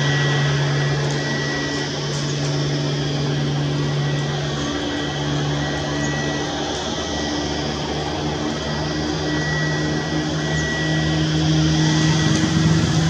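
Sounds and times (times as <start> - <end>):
jet engine drone: 0.0 - 13.0.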